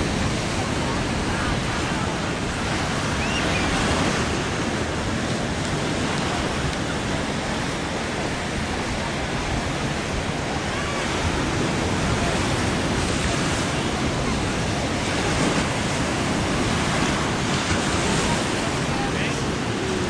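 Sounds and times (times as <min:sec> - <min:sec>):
ocean surf on a beach: 0:00.0 - 0:20.0
wind buffeting microphone: 0:00.0 - 0:20.0.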